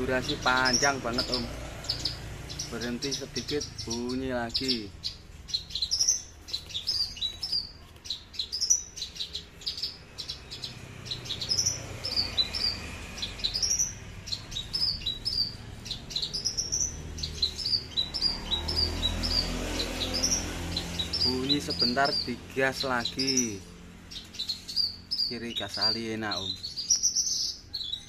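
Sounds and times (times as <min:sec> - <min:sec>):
lark singing: 0:00.0 - 0:28.0.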